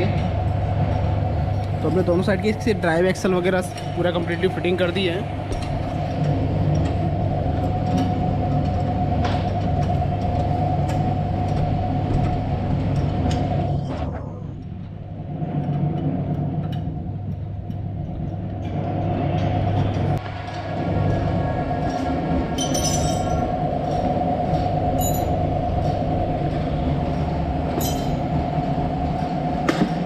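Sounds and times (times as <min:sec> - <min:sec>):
machine mechanical hum: 0:00.0 - 0:30.0.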